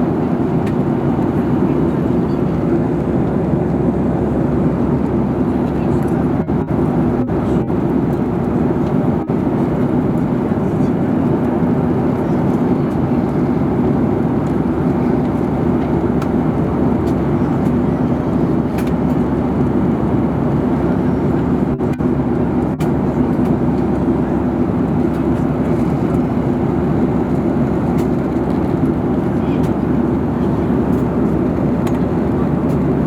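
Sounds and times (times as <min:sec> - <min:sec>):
airliner cabin engine hum: 0:00.0 - 0:33.0.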